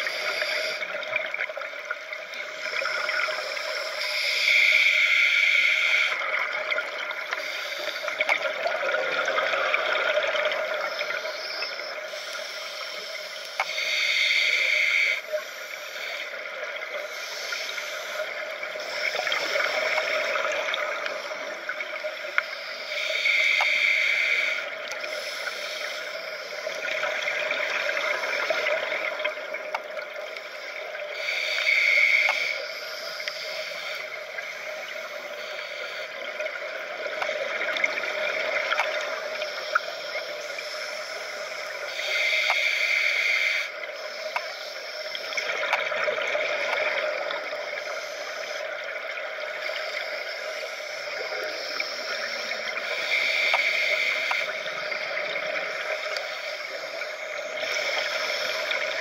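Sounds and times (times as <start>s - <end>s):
underwater breath bubbling: 0.0s - 59.0s.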